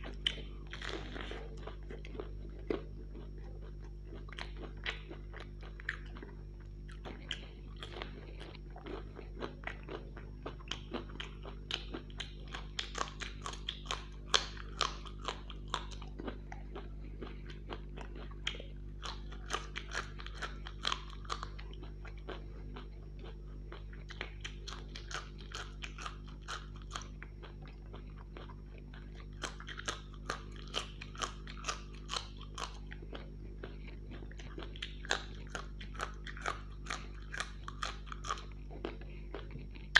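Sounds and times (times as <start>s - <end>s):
chewing and crunching: 0.0s - 39.9s
steady low hum: 0.0s - 39.9s.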